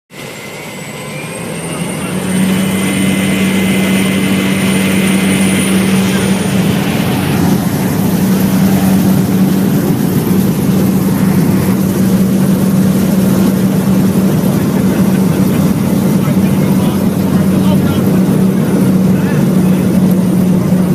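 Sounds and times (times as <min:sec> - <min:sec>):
propeller airplane engine drone: 0:00.1 - 0:20.9.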